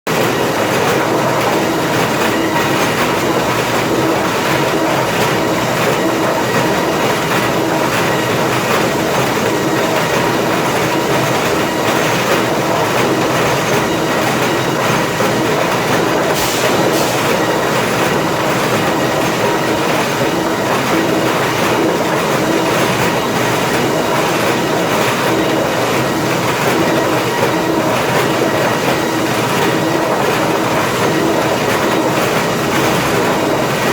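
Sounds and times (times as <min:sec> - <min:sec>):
machine hum with steady tone: 0:00.1 - 0:33.9
planer machinery clattering: 0:00.1 - 0:33.9.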